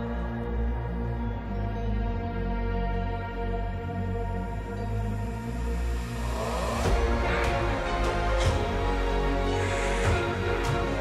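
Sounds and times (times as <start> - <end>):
deep bass: 0.0 - 11.0
sustained tones background music: 0.0 - 11.0.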